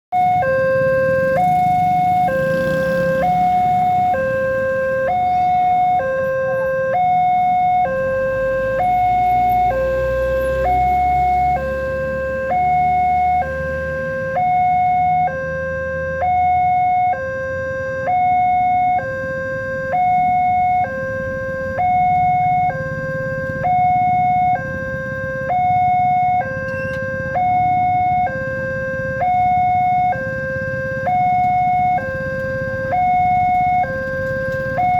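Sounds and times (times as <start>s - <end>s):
level crossing two-tone alarm: 0.1s - 34.9s.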